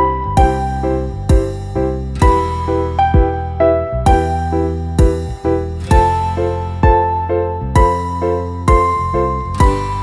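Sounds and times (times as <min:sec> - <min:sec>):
keyboard chords over low thumps: 0:00.0 - 0:10.0.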